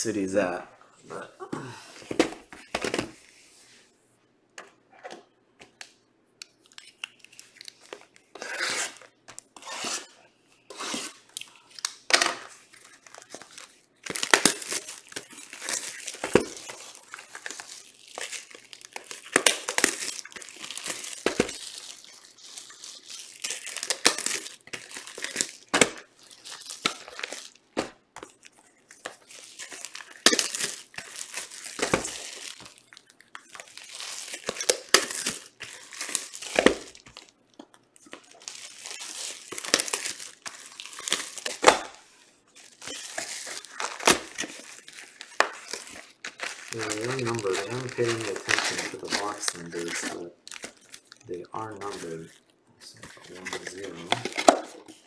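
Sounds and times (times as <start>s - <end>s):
plastic wrapping crinkling and tearing: 6.5s - 55.0s.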